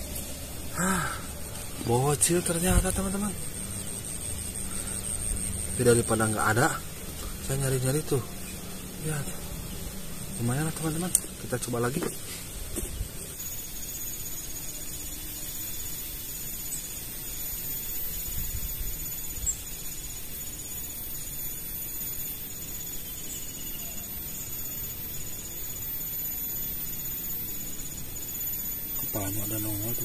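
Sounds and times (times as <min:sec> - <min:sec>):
crickets trilling: 0:00.0 - 0:30.0
high-pitched insect whine: 0:00.0 - 0:30.0.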